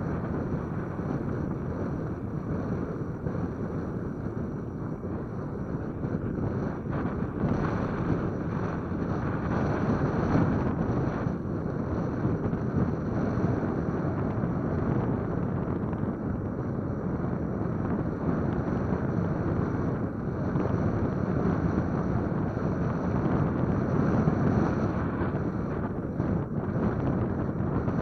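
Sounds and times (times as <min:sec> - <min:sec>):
wind across microphone: 0:00.0 - 0:28.0.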